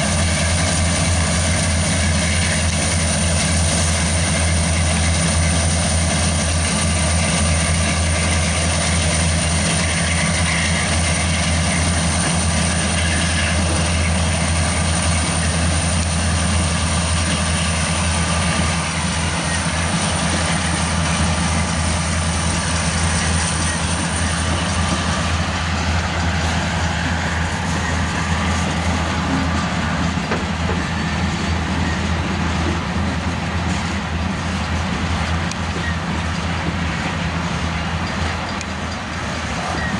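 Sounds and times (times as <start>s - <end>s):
diesel locomotive engines droning: 0.0s - 39.9s
freight cars rolling on rails: 0.0s - 39.9s.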